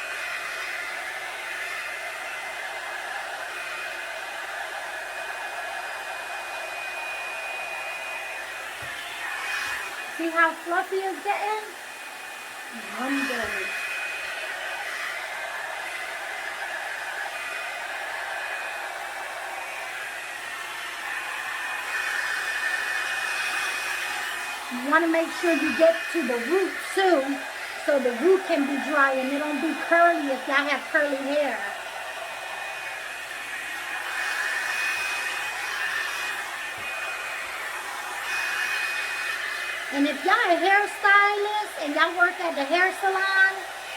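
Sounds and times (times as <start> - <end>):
hair dryer brush running: 0.0 - 43.9.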